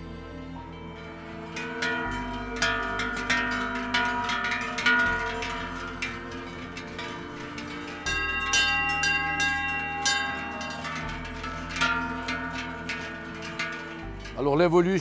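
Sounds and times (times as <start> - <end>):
soft background music: 0.0 - 15.0
cowbells clanging: 0.7 - 15.0.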